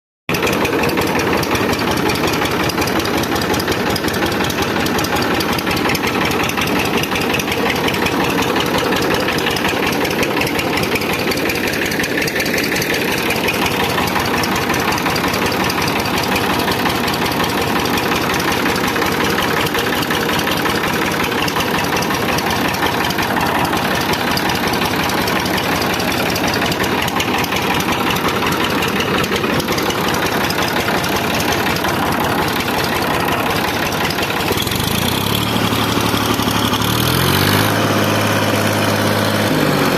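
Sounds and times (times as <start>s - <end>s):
tractor diesel engine idling: 0.3s - 39.9s.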